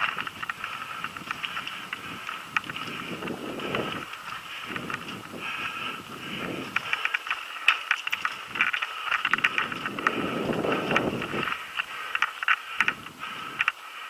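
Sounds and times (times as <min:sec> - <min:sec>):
wind buffeting microphone: 0:00.0 - 0:13.8
mountain bike rattling over dirt: 0:00.0 - 0:14.0.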